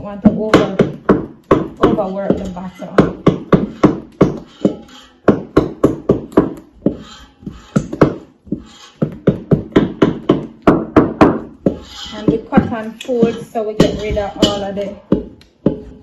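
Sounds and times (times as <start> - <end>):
wooden spoon knocking on steel bowl: 0.0 - 16.0.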